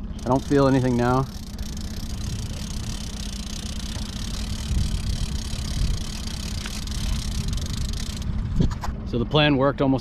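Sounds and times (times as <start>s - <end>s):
small outboard motor running: 0.0s - 10.0s.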